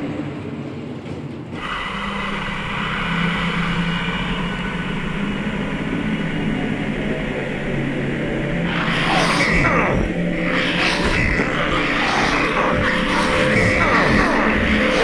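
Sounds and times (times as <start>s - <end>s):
low hum: 1.6s - 15.0s
steady rumbling: 1.6s - 15.0s.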